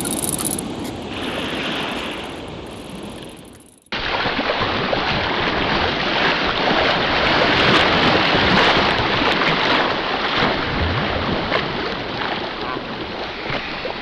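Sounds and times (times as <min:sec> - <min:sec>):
water rushing: 0:00.0 - 0:11.5.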